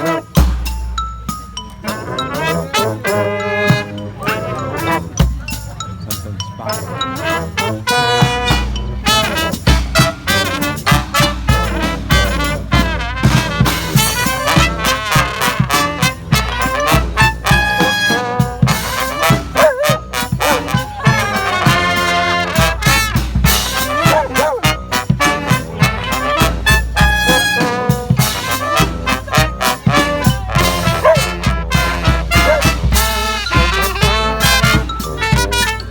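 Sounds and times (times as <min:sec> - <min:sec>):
trumpets: 0:00.0 - 0:00.7, 0:01.8 - 0:05.2, 0:06.6 - 0:35.9
trombones: 0:00.0 - 0:00.9, 0:01.8 - 0:35.9
brass band playing upbeat tune: 0:00.0 - 0:35.9.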